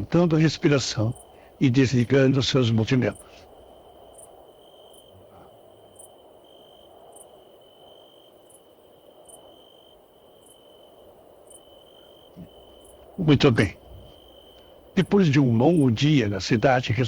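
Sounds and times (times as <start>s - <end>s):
crickets chirping: 0.0s - 17.0s
soft low hiss: 0.0s - 17.0s.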